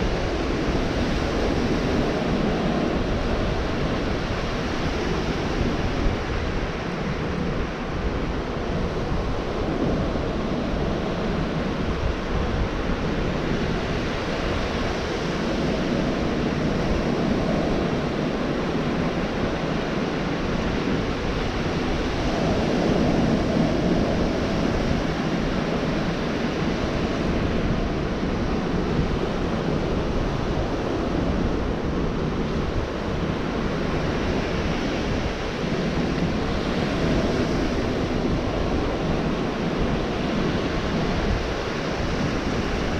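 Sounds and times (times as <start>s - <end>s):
surf washing ashore: 0.0s - 42.9s
wind buffeting microphone: 0.0s - 42.9s.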